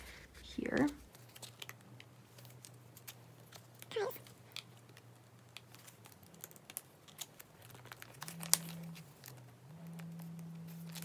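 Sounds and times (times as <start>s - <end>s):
plastic pages crinkling: 0.0s - 11.0s.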